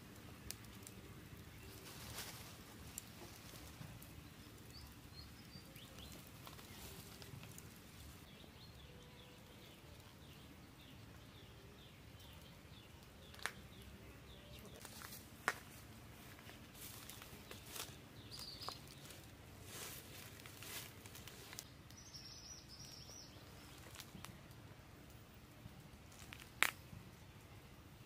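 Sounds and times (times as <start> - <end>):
bird chirping: 0.9 - 15.2, 16.2 - 24.4.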